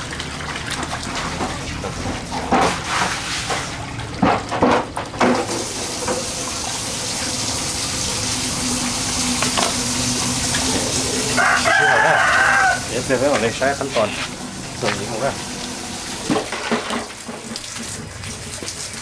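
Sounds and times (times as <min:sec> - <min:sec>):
water running: 0:00.0 - 0:19.0.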